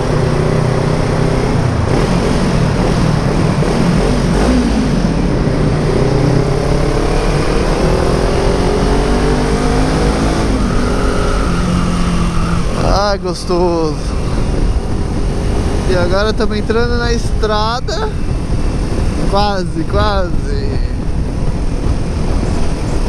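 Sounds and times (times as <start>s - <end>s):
motorcycle engine growling: 0.0s - 23.0s
wind rushing: 1.5s - 23.0s.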